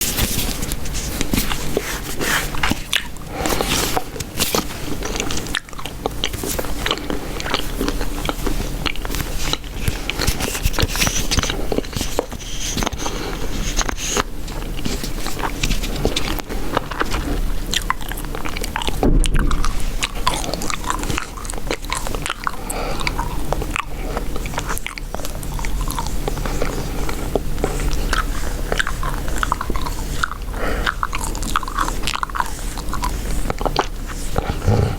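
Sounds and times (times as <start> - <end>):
gum chewing wet clicks: 2.5 - 34.9.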